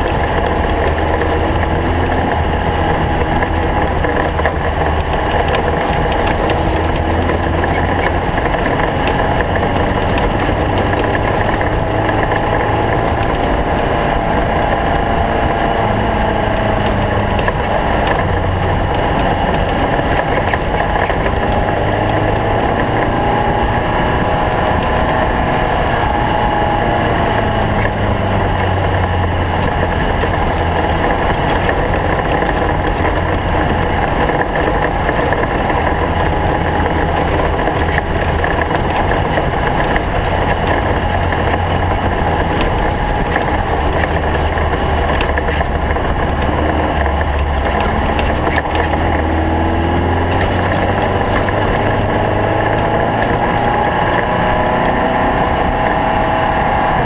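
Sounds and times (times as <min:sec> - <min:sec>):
buggy engine running hard: 0:00.0 - 0:57.0.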